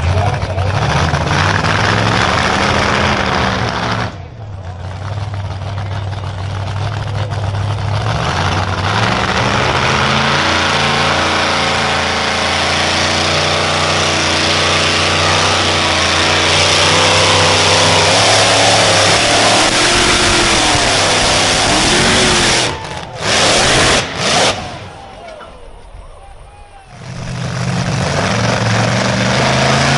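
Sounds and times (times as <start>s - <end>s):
vehicle engine at full throttle: 0.0s - 25.9s, 26.8s - 29.9s.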